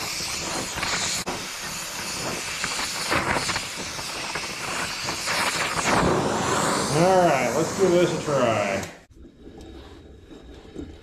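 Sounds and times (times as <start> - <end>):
gas torch flame hissing: 0.0 - 9.1.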